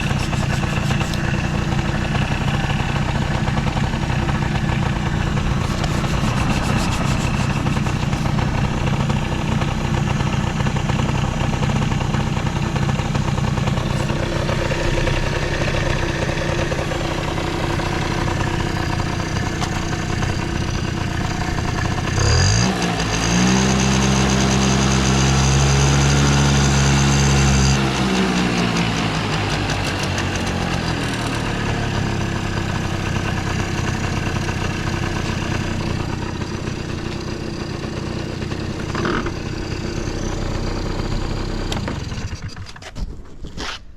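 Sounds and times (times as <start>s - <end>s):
scooter engine idling and revving: 0.0s - 43.4s.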